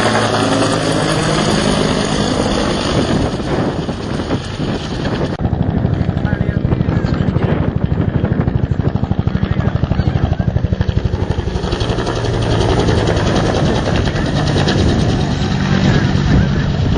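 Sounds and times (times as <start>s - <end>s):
helicopter rotor thumping: 0.0s - 16.9s
turbine engine running: 0.0s - 16.9s.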